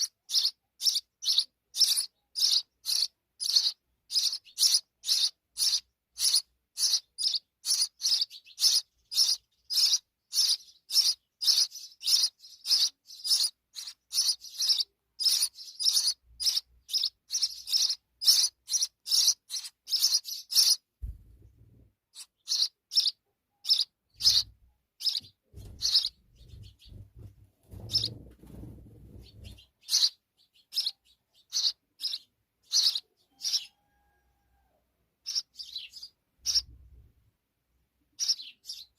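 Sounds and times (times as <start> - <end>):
sparrow chirping: 0.0 - 34.6, 35.2 - 37.1, 38.1 - 38.9.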